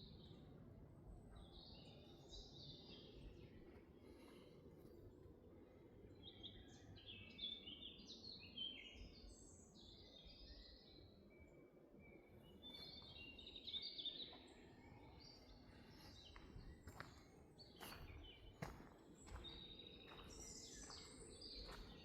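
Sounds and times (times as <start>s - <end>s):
low steady background hum: 0.0s - 22.0s
birds chirping: 1.2s - 22.0s.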